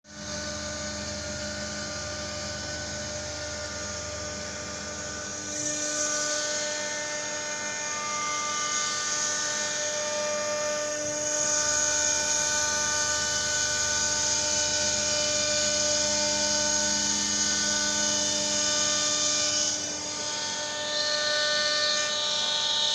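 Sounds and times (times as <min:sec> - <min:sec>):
cutting machine whine: 0:00.1 - 0:22.9.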